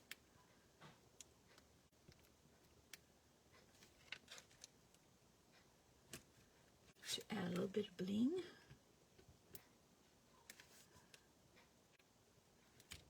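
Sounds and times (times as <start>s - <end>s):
light clicks and taps: 0.0s - 7.7s, 8.5s - 13.0s.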